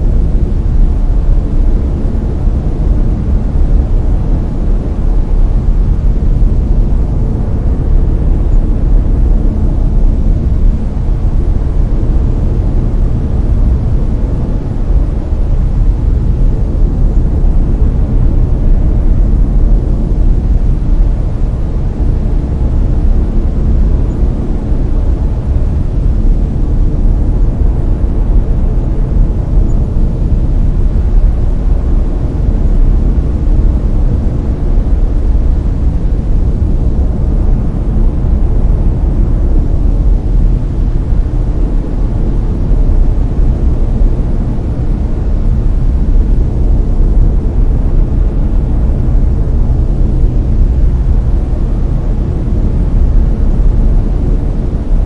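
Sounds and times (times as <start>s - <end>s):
brown noise rushing hiss: 0.0s - 55.0s.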